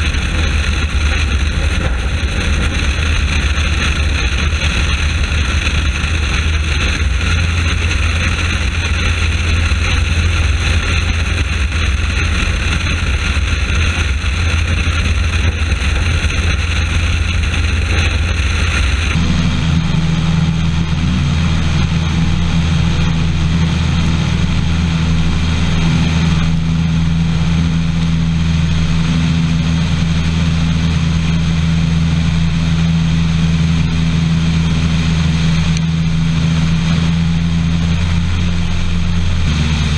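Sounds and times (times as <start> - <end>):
airflow rush: 0.0 - 39.9
biplane engine droning: 0.0 - 39.9.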